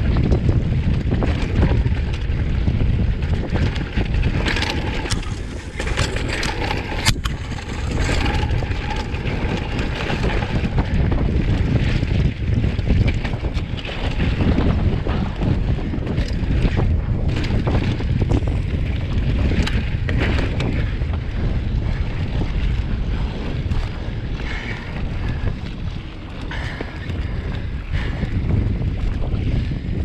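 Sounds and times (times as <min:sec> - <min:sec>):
bike knocks and rattles: 0:00.0 - 0:30.0
tyres rumbling over dirt trail: 0:00.0 - 0:30.0
wind buffeting microphone: 0:00.0 - 0:30.0.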